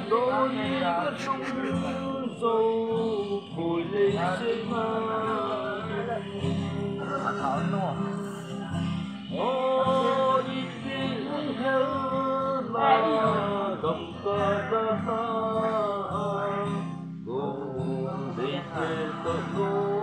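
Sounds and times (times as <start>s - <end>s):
men singing together: 0.0s - 8.7s, 9.3s - 16.7s, 17.3s - 20.0s
acoustic guitar: 0.0s - 20.0s.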